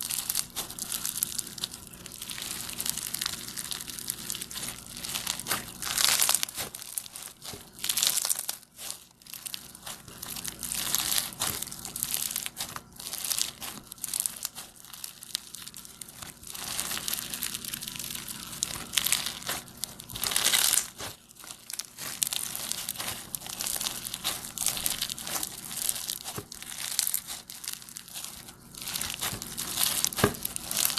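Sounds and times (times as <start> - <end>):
slime squeezed by hand crackling: 0.0 - 30.9.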